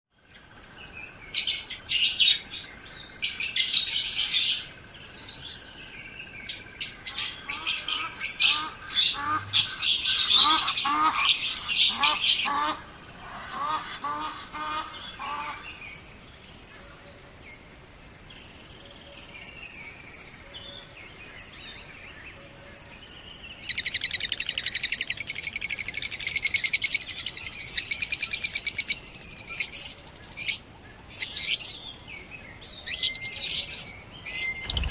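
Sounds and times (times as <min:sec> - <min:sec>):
lovebirds chirping: 0:00.2 - 0:34.9.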